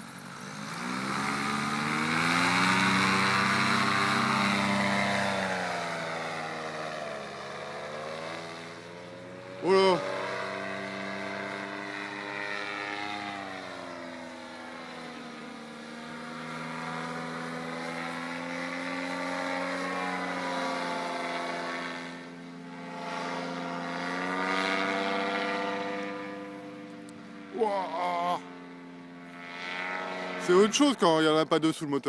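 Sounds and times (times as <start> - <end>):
paramotor engine droning overhead: 0.0 - 32.0.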